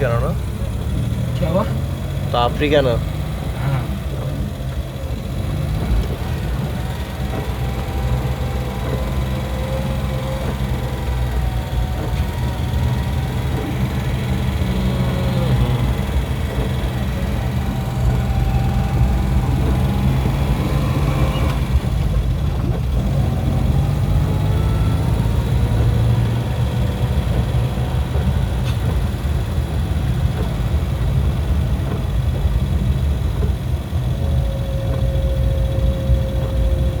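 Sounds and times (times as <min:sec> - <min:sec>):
low engine rumble: 0:00.0 - 0:37.0.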